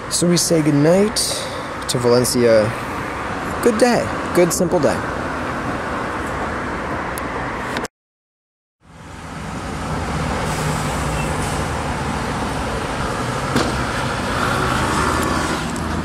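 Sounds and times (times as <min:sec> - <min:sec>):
road traffic passing: 0:00.0 - 0:07.9, 0:08.8 - 0:16.0.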